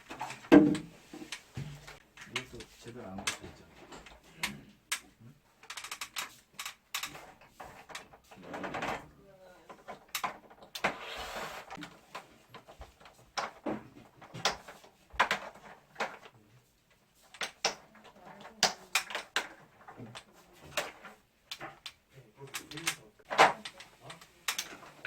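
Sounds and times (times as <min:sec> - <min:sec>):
plastic parts clicking and knocking: 0:00.0 - 0:11.0, 0:11.7 - 0:25.0.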